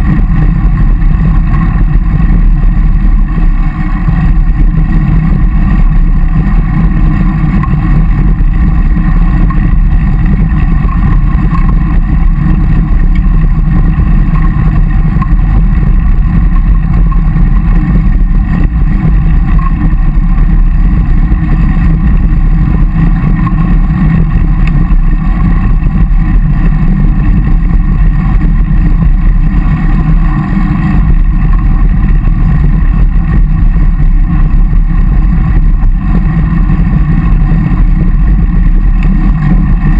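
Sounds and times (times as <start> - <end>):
bicycle tyres on tarmac: 0.0 - 39.9
wind buffeting microphone: 0.0 - 39.9.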